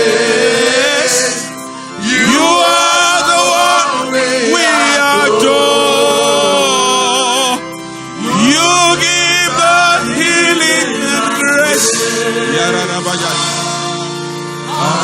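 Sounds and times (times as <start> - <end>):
gospel worship singing with music: 0.0 - 15.0.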